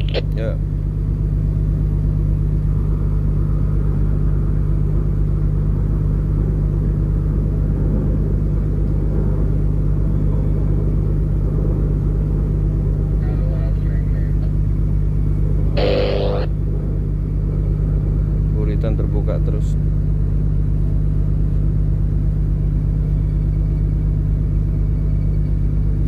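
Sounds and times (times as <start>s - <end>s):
ship diesel machinery rumble: 0.0s - 26.0s.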